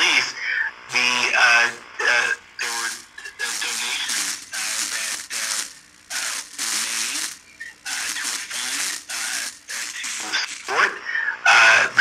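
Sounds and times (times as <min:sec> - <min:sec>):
radio hiss and distortion: 0:00.0 - 0:12.0
voice talking over radio: 0:00.0 - 0:12.0.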